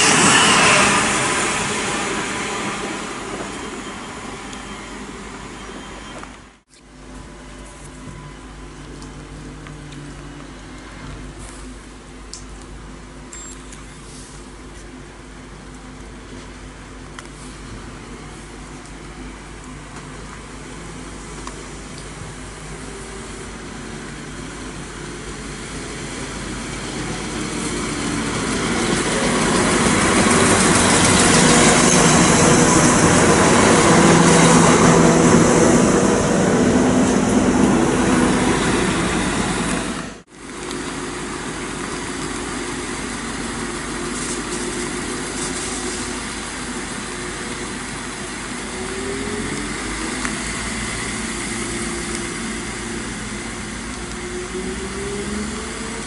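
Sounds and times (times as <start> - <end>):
train wheels on rails: 0.0 - 6.6, 9.0 - 56.0
diesel train passing: 0.0 - 56.0.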